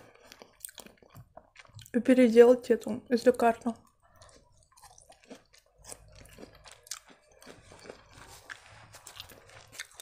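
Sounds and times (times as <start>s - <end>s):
chewing food: 0.0s - 2.2s, 2.8s - 10.0s.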